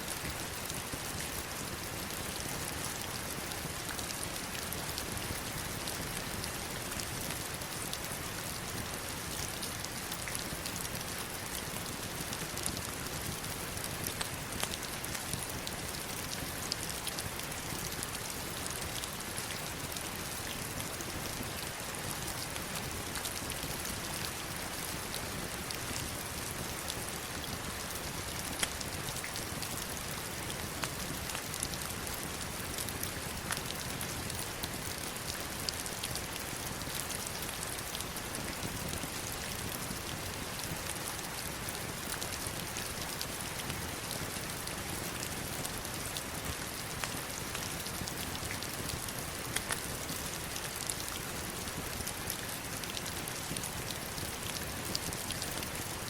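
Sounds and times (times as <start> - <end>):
heavy rain on stones and river: 0.0 - 56.0.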